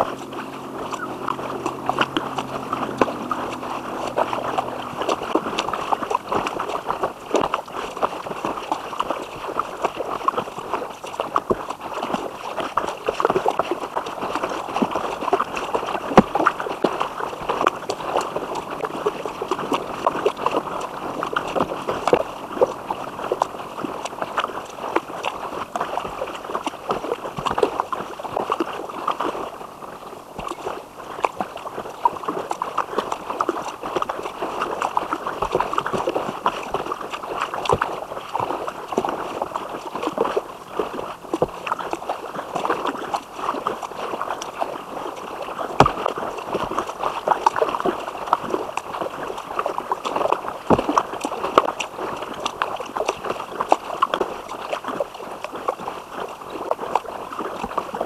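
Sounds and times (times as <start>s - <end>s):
paddle splashing water: 0.0s - 58.0s.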